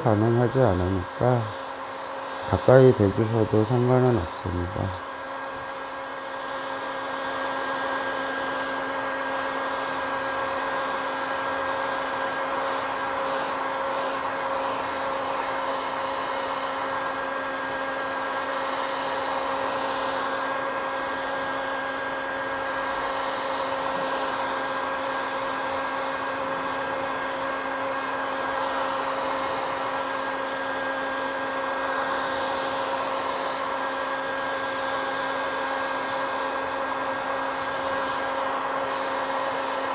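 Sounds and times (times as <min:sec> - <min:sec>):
heat gun blowing air: 0:00.0 - 0:39.9.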